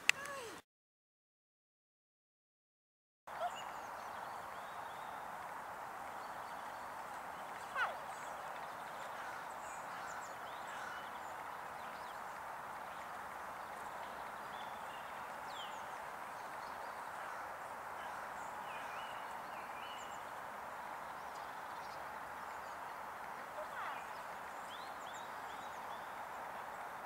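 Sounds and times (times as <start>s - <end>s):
outdoor background noise: 0.0s - 0.6s, 3.3s - 27.0s.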